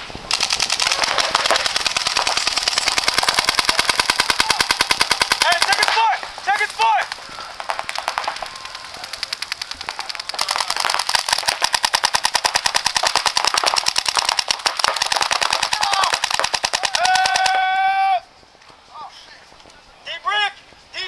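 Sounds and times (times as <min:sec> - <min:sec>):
paintball markers firing: 0:00.3 - 0:17.6.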